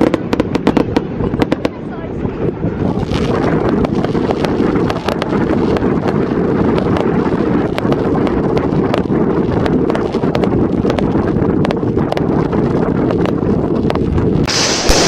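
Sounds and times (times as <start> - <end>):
fireworks crackling: 0.0 - 15.0
wind buffeting microphone: 0.0 - 15.0.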